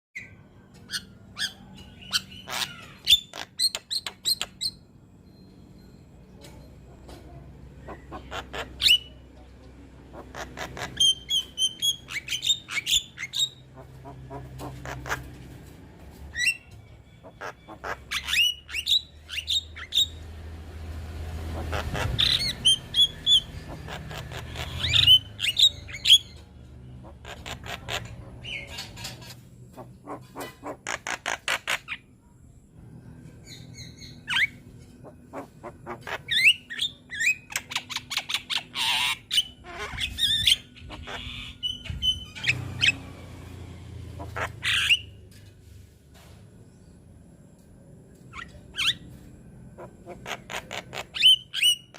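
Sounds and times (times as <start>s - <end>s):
myna bird singing: 0.2s - 45.5s, 46.6s - 51.9s.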